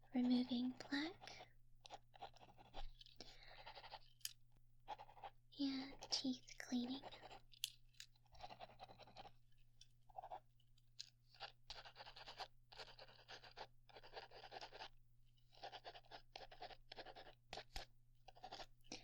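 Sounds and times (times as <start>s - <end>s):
pen writing on paper: 0.2s - 4.2s, 4.8s - 9.4s, 10.1s - 10.5s, 11.3s - 19.0s.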